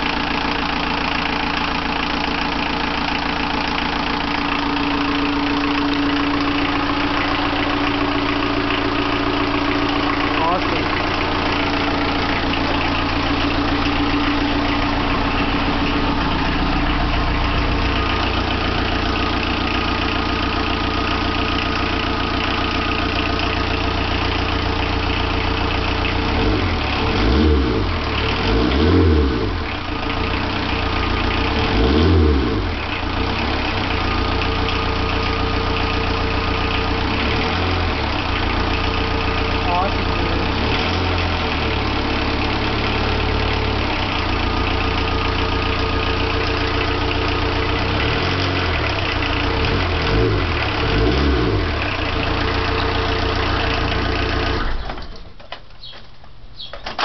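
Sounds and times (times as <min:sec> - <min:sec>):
diesel engine idling and revving: 0:00.0 - 0:55.4.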